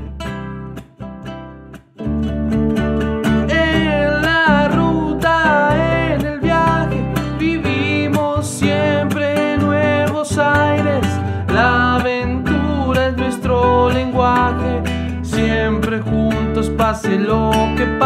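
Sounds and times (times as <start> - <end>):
strummed acoustic guitar: 0.0 - 18.0
person singing: 3.4 - 18.0.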